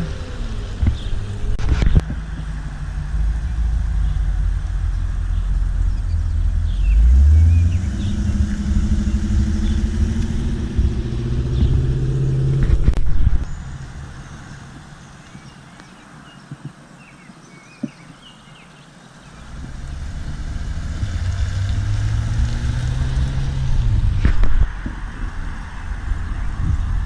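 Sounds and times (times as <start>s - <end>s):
car engine rumbling past: 0.0s - 16.3s, 19.2s - 27.0s.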